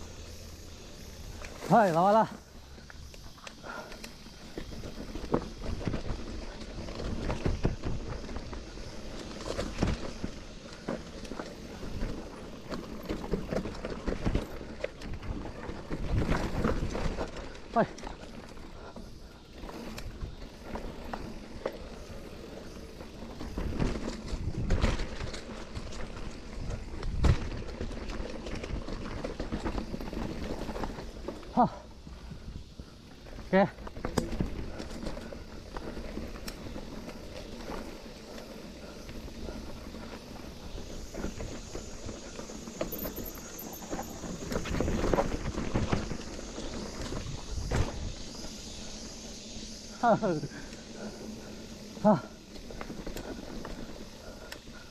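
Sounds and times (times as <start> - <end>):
bike clattering and rattling: 0.0 - 54.9
tyres crunching over loose ground: 0.0 - 54.9.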